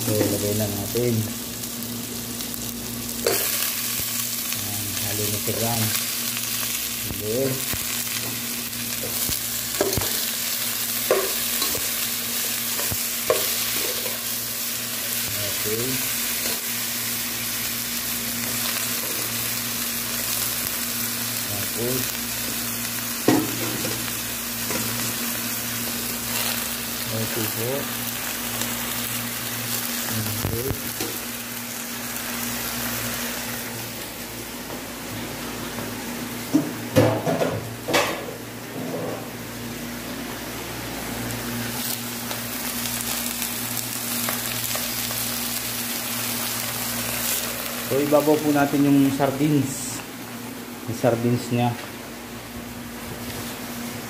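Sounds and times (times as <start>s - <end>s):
vegetables sizzling in a pot: 0.0s - 54.0s.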